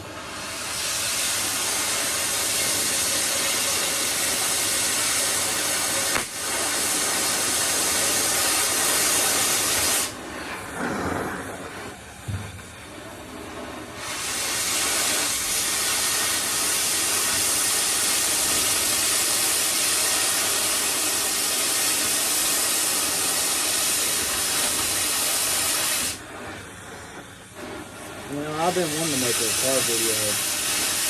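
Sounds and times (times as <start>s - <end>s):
cutting torch hissing: 0.0s - 31.0s.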